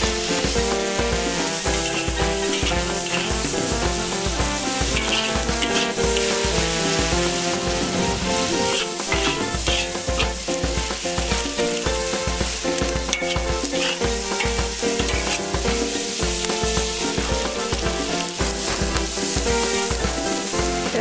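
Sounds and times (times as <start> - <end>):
background music with a beat: 0.0 - 21.0
meat sizzling in a wok: 0.0 - 21.0
metal spatula scraping a pan: 0.0 - 21.0.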